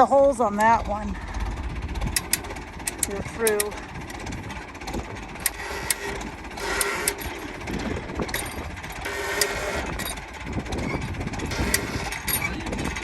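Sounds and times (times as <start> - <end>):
engine idling: 0.0 - 13.0
sharp clicks and knocks: 2.1 - 13.0.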